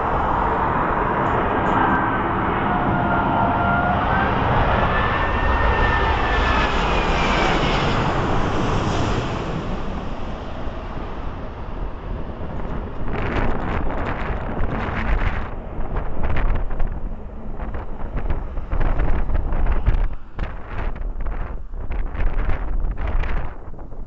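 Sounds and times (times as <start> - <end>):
loud rushing noise: 0.0 - 23.2
jet engine high whine: 0.0 - 24.0
wind buffeting microphone: 0.0 - 24.0.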